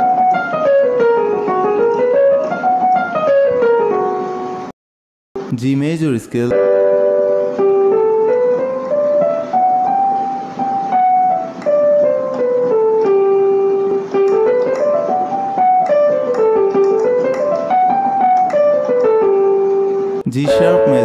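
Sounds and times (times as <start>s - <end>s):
electronic keyboard playing a scale: 0.0s - 4.7s, 6.5s - 21.0s.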